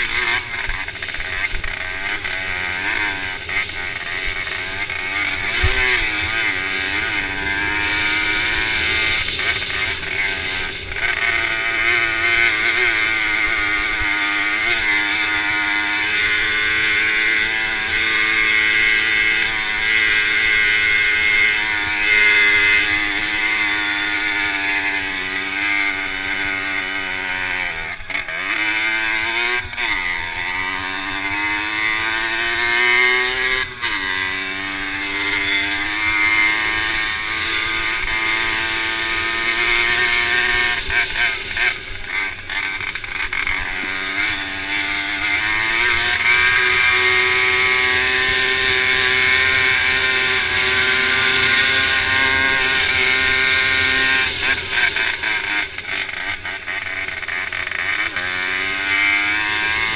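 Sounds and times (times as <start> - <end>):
moped engine revving: 0.0 - 59.9.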